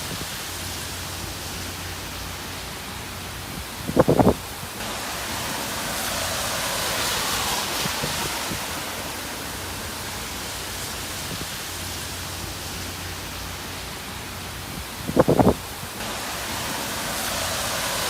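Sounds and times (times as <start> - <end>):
rain: 0.0 - 18.0
strong wind: 0.0 - 18.0.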